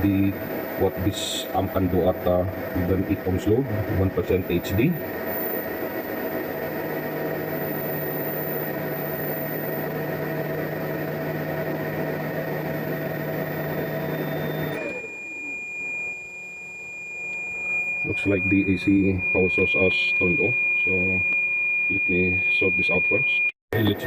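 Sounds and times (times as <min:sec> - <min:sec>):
steady tones: 0:00.0 - 0:23.5
electrical hum and whir: 0:00.0 - 0:24.0
high-pitched tone: 0:00.8 - 0:23.5.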